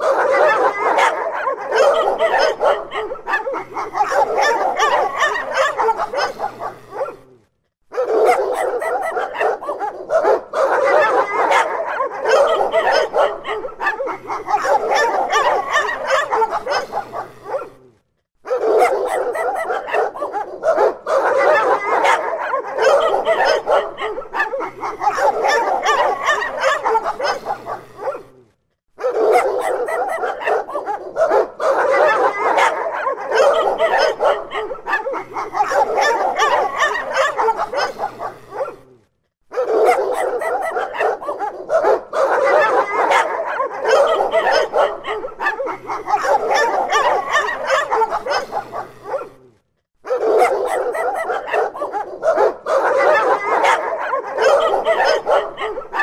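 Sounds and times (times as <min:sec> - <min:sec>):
pack of dogs barking: 0:00.0 - 0:56.0.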